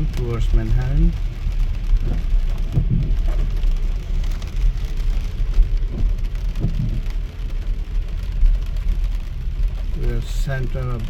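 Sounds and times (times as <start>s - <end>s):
car rumbling on wet road: 0.0s - 11.0s
rain hitting a car: 0.0s - 11.0s.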